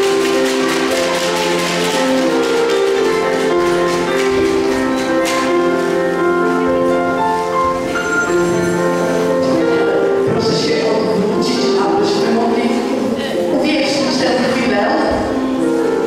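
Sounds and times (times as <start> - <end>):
melody of held notes: 0.0 - 16.0.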